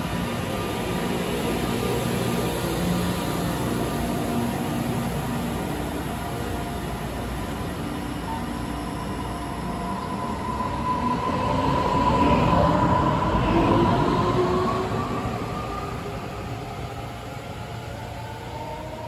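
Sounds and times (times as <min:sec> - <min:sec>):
electric train rolling past: 0:00.0 - 0:19.0.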